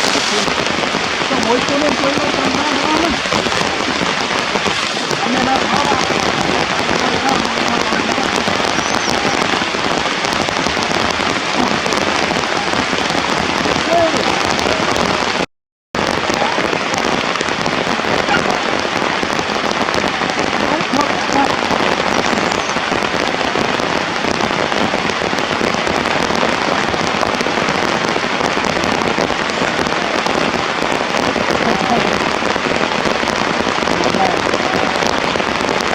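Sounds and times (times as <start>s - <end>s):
steady rain patter: 0.0s - 35.9s.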